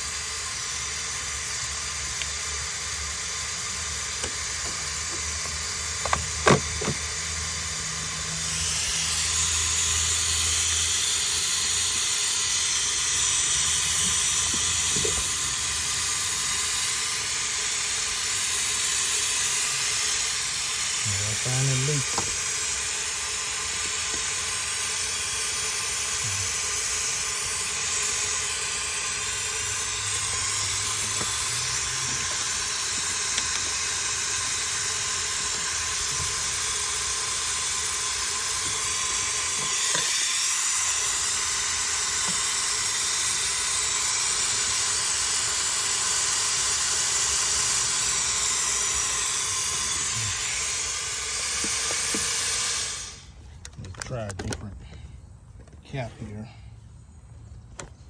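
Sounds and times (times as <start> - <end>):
compressed air hissing: 0.0 - 58.0.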